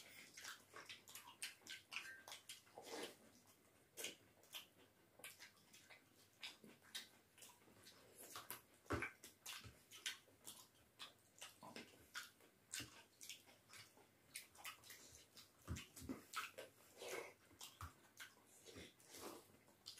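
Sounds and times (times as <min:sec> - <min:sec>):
smacking chewing: 0:00.0 - 0:19.9.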